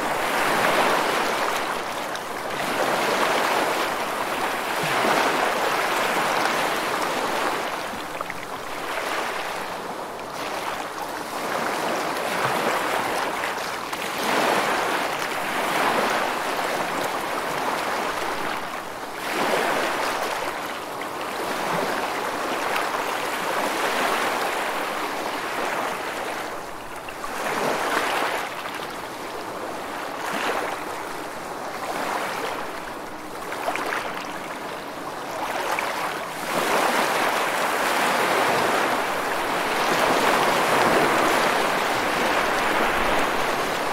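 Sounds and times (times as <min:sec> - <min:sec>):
sea waves breaking: 0:00.0 - 0:43.9.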